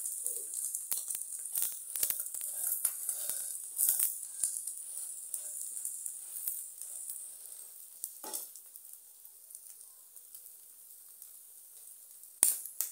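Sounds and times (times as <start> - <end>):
omelette sizzling in a pan: 0.0 - 12.9.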